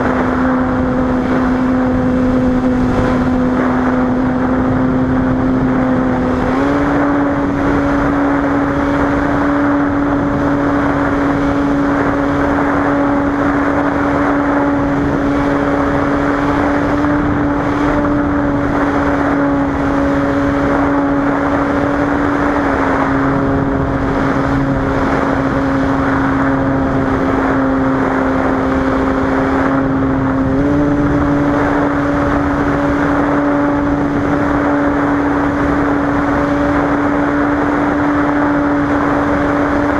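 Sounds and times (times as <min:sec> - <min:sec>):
propeller plane engine droning: 0:00.0 - 0:39.9
rushing air noise: 0:00.0 - 0:39.9.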